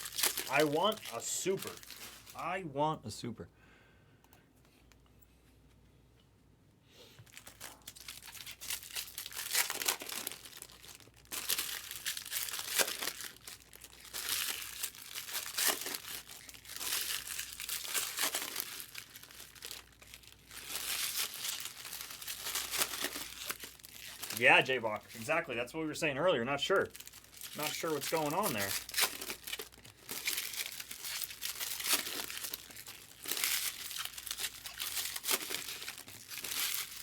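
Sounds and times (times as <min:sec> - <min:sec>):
wrappers crinkling and tearing: 0:00.0 - 0:02.5, 0:07.2 - 0:37.0.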